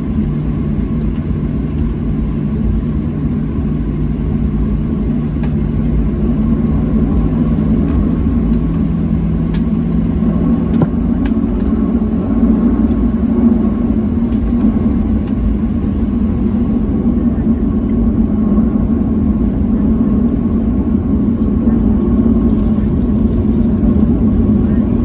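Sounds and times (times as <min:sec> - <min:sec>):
jet engine rumble with whine: 0:00.0 - 0:25.0
low hum: 0:00.0 - 0:25.0.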